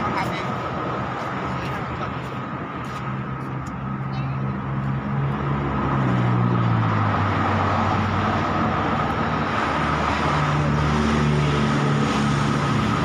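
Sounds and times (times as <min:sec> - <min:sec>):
passing vehicle engines humming: 0:00.0 - 0:13.0
traffic noise: 0:00.0 - 0:13.0.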